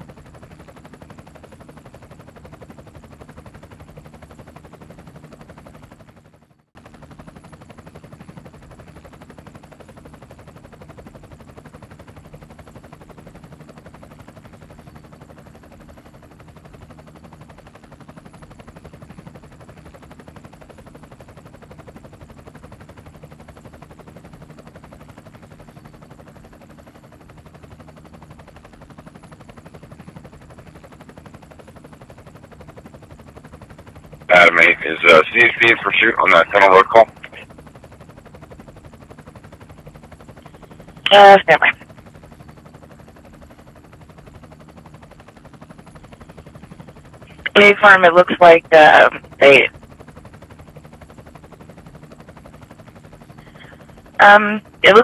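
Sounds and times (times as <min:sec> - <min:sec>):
helicopter rotor chopping: 0:00.0 - 0:55.0.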